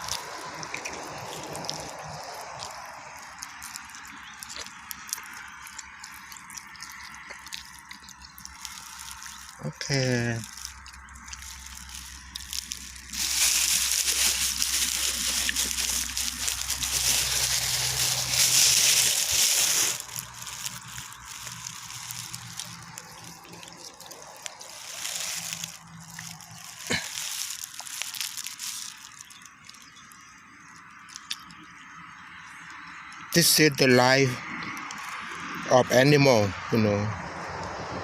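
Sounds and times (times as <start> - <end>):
water running and splashing: 0.0 - 31.6.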